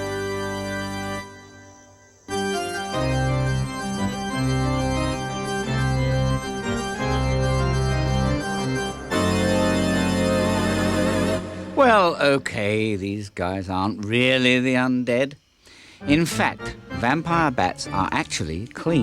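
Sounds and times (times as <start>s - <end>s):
spooky organ chords: 0.0s - 14.4s, 15.8s - 19.0s.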